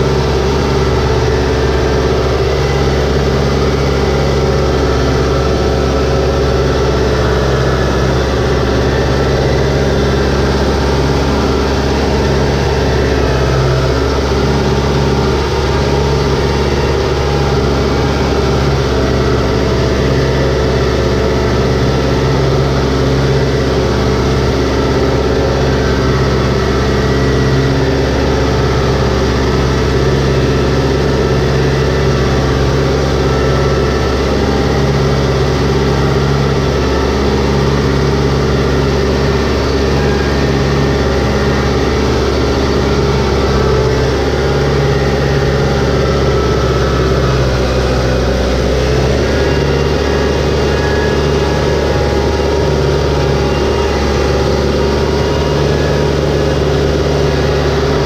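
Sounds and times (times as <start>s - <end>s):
tractor diesel engine running: 0.0s - 58.0s
tyres churning through mud: 0.0s - 58.0s.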